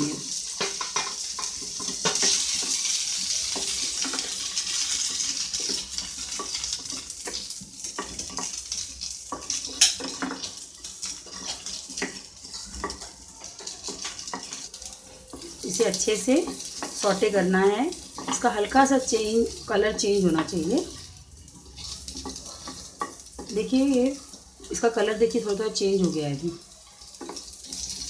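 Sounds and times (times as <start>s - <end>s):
wooden spatula scraping a pan: 0.0s - 25.9s, 26.6s - 28.0s
potatoes sizzling in a frying pan: 0.0s - 28.0s.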